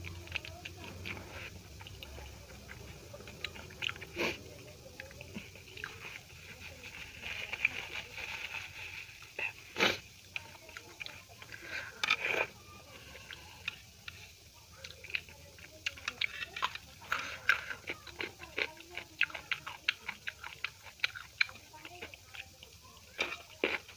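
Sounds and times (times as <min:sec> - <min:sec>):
person chewing food: 0:00.0 - 0:23.9.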